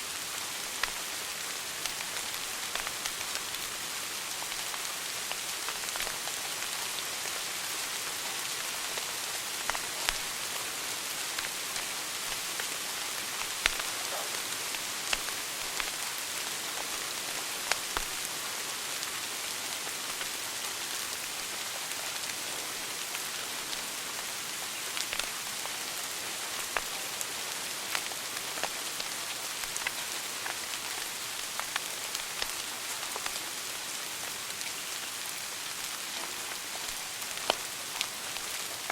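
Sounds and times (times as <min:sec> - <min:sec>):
wood fire crackling: 0:00.1 - 0:07.4, 0:08.6 - 0:38.9.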